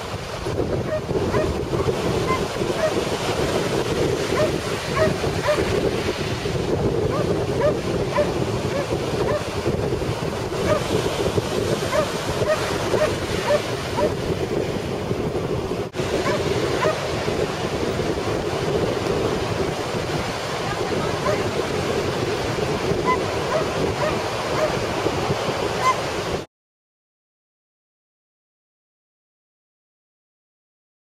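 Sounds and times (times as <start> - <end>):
ocean surf breaking: 0.0 - 26.5
wind buffeting microphone: 0.0 - 26.5.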